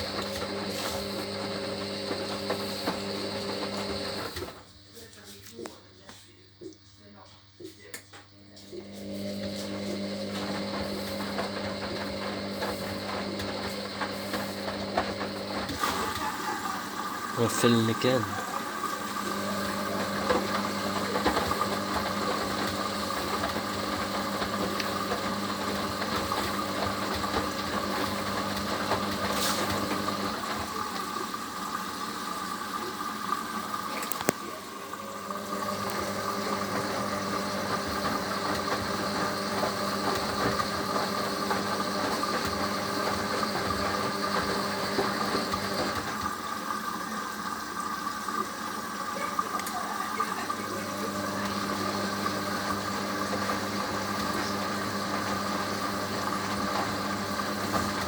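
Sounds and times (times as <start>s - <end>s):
drum motor humming: 0.0s - 4.6s, 8.8s - 58.0s
washing machine filling with water: 0.0s - 5.3s, 8.4s - 58.0s.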